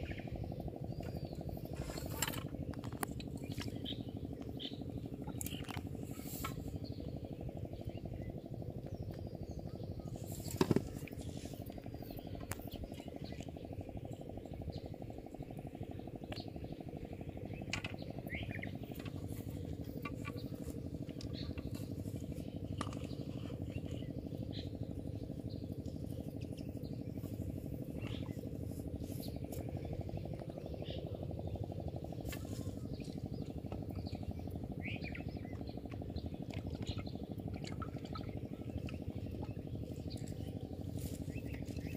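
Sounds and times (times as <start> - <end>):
faint bird chirps: 0.0 - 41.9.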